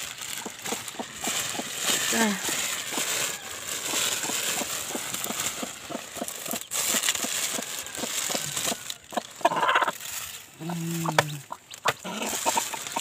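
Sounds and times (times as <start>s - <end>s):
rustling in straw: 0.0s - 13.0s.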